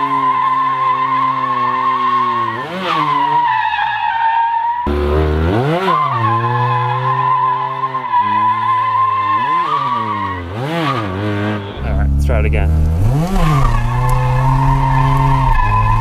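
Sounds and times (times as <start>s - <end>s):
rotary engine revving: 0.0s - 3.4s, 4.9s - 16.0s
tires squealing: 0.0s - 16.0s.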